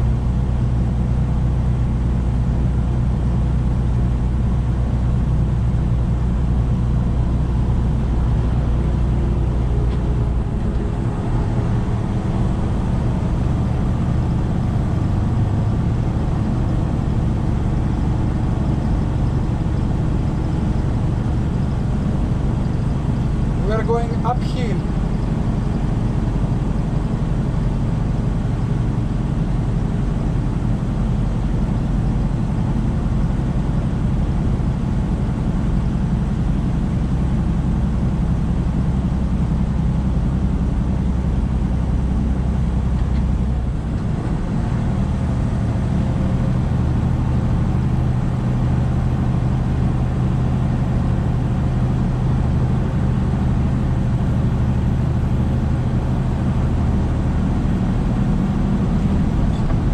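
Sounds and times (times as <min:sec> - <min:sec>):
road noise: 0:00.0 - 0:59.9
truck diesel engine driving: 0:00.0 - 0:59.9.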